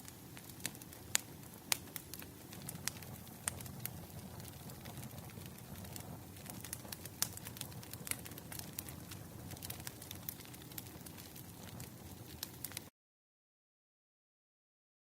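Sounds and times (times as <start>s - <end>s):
low fire rumble: 0.0s - 12.9s
wood fire crackling: 0.0s - 12.9s.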